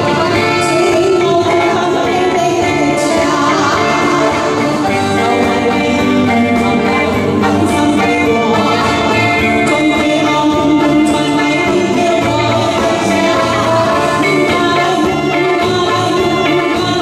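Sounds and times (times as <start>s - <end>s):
electric bass: 0.0s - 17.0s
keyboard: 0.0s - 17.0s
person singing: 0.0s - 17.0s.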